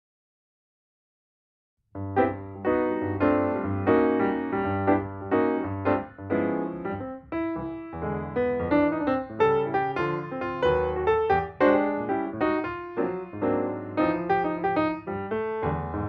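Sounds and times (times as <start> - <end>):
piano music: 2.0 - 16.0.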